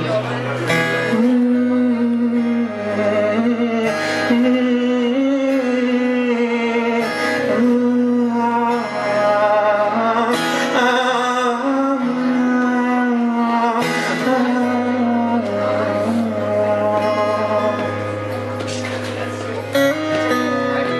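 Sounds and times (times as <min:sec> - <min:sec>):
man singing: 0:00.0 - 0:18.4
strummed acoustic guitar: 0:00.0 - 0:20.9.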